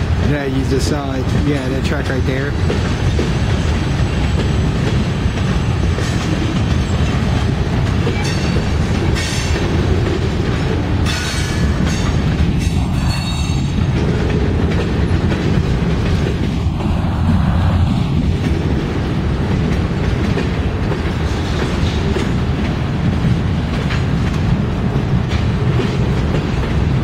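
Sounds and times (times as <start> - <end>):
diesel locomotives rumbling: 0.0 - 27.0.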